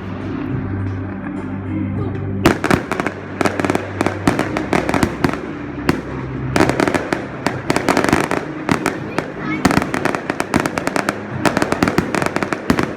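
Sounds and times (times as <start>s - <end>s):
fireworks bangs and crackles: 2.4s - 12.9s.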